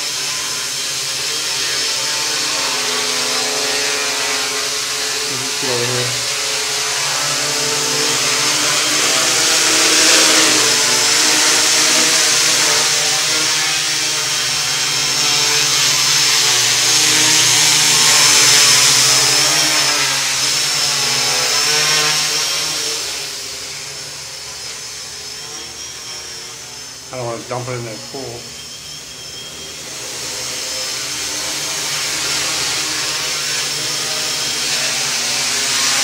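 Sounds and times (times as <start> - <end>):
quadcopter motors buzzing: 0.0 - 36.0.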